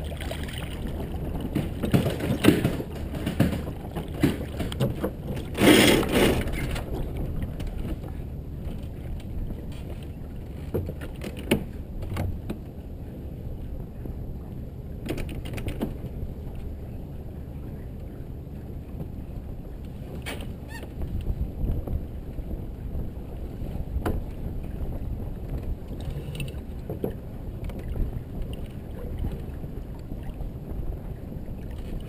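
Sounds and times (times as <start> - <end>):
boat knocks: 0.0 - 12.8, 15.0 - 16.8, 17.6 - 32.0
water rushing along hull: 0.0 - 32.0
wind buffeting microphone: 0.0 - 32.0.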